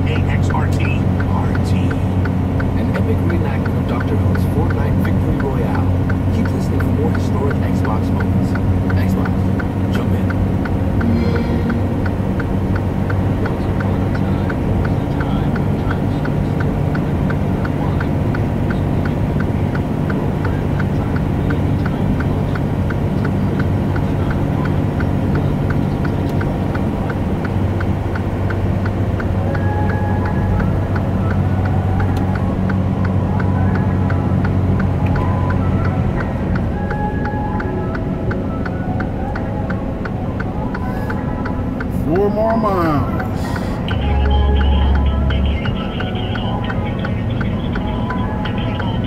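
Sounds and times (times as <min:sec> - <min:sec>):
truck engine and road drone: 0:00.0 - 0:49.0.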